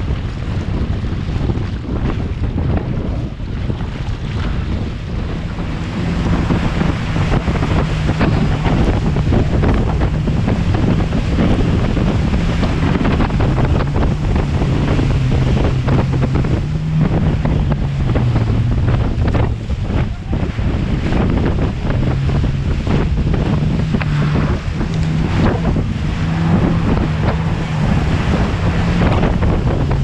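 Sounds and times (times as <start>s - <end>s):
hull slapping through water: 0.0s - 30.0s
watercraft engine running: 0.0s - 30.0s
wind buffeting microphone: 0.0s - 30.0s.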